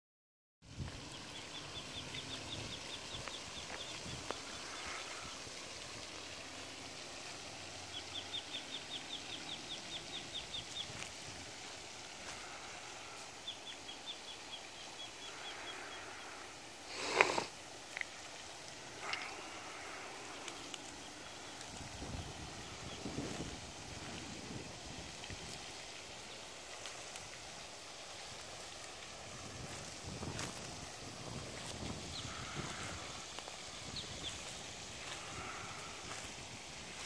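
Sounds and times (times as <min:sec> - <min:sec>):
faint hiss: 0:00.7 - 0:37.0.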